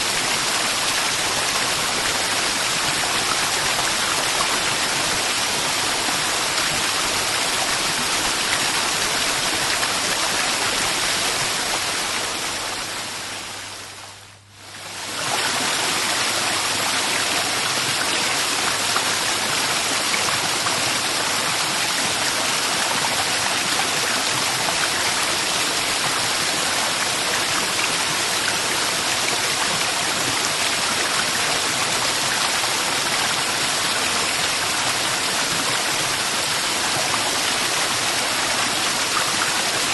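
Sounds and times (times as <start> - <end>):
waterfall rushing: 0.0 - 13.5, 14.8 - 39.9.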